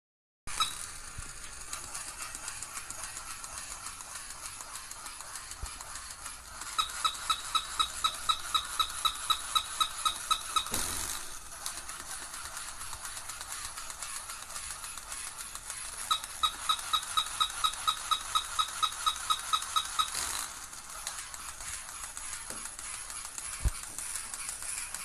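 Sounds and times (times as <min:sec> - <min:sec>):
short high-pitched squeaks: 0:00.5 - 0:25.0
toy mechanism clicking rapidly: 0:00.5 - 0:25.0.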